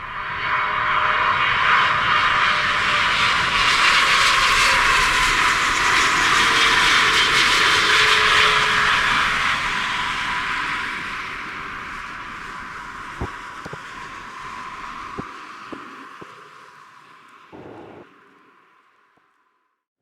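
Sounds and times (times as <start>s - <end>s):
jet airliner passing with whine: 0.0s - 18.9s.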